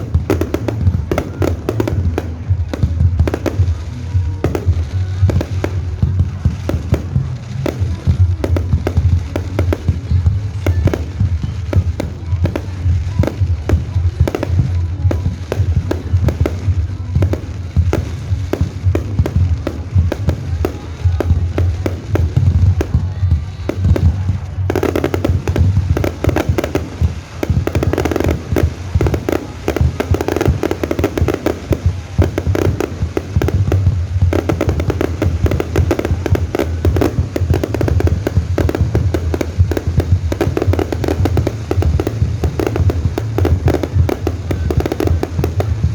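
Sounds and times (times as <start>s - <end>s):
fireworks bangs and crackles: 0.0s - 45.9s
music: 0.0s - 45.9s.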